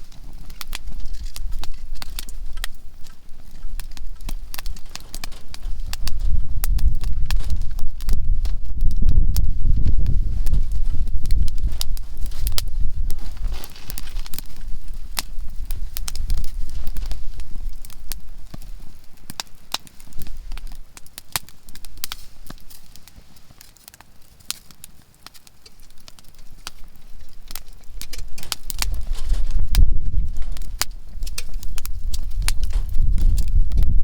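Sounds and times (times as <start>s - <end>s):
firewood crackling and popping: 0.0s - 34.0s.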